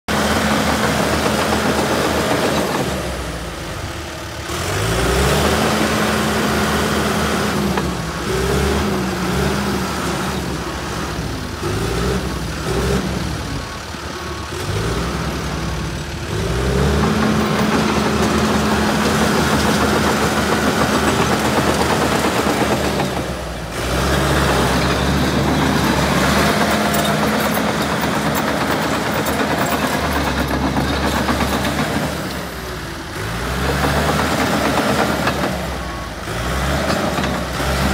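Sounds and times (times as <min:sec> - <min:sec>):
dozer diesel engine revving: 0:00.1 - 0:37.9.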